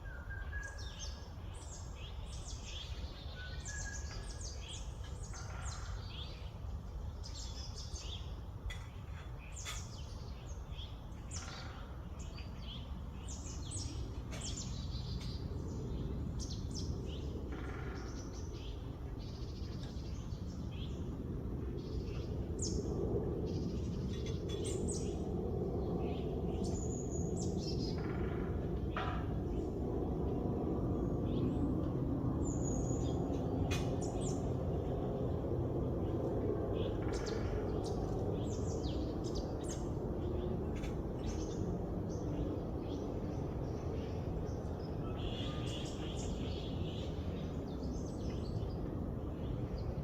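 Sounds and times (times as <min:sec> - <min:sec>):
small birds chirping: 0:00.2 - 0:28.2, 0:36.0 - 0:50.0
low background rumble: 0:01.0 - 0:50.0.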